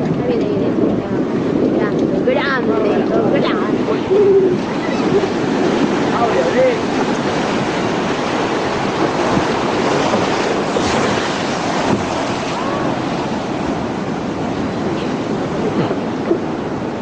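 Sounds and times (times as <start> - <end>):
sea waves breaking on pilings: 0.0 - 17.0
wind buffeting microphone: 0.0 - 17.0.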